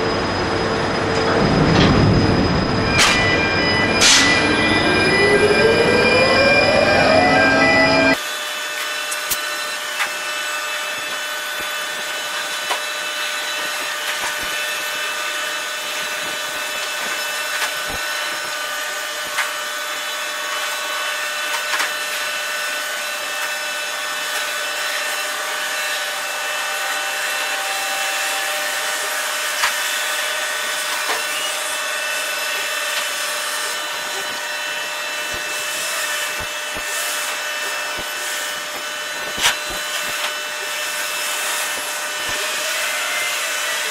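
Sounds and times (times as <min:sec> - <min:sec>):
crane machinery whine: 0:00.0 - 0:08.4, 0:14.0 - 0:42.6.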